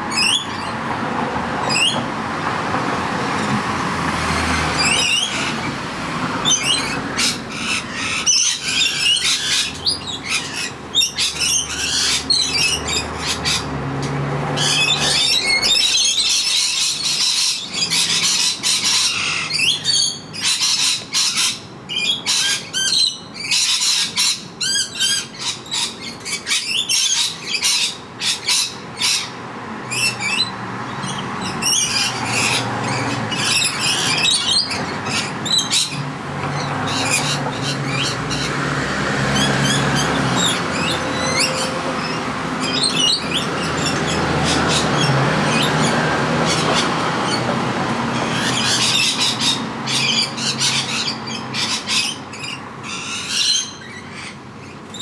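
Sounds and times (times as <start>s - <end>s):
parrots screeching and chattering: 0.0s - 0.9s, 1.6s - 2.1s, 4.2s - 55.0s.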